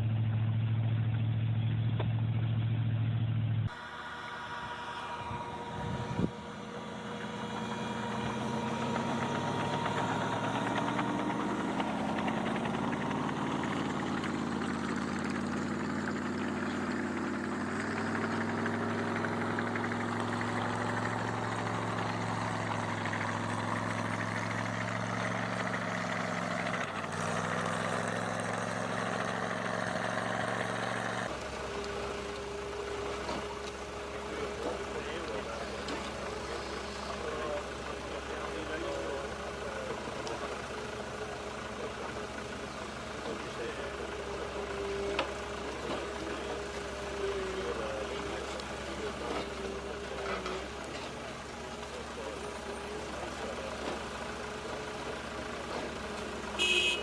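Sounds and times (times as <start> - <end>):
engine running under load: 0.0 - 57.0
quieter steady engine hum: 0.0 - 57.0.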